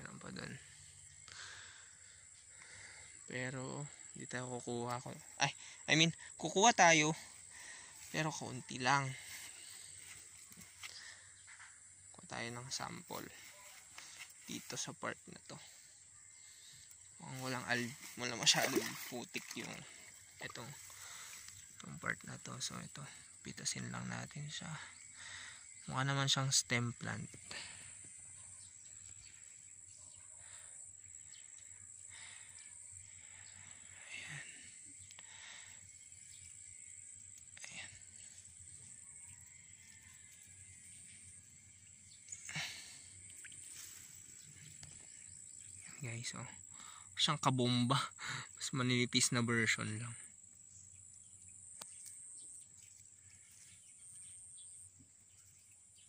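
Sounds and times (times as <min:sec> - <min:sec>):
faint outdoor background noise: 0:00.0 - 0:56.0.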